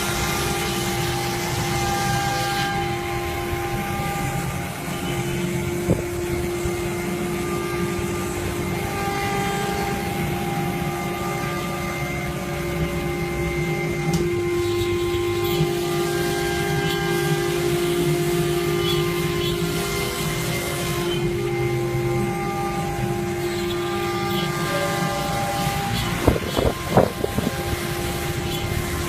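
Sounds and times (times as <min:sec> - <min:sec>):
cnc router cutting wood: 0:00.0 - 0:29.0.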